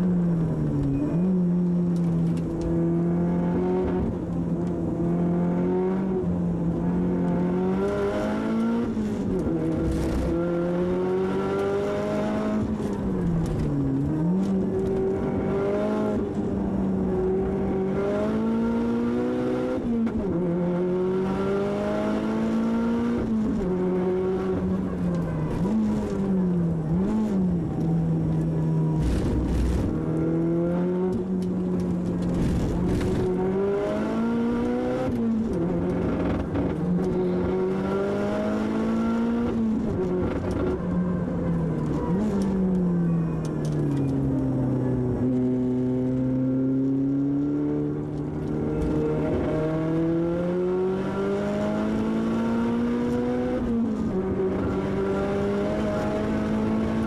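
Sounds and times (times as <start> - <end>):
turbocharged car engine from cabin: 0.0 - 57.0.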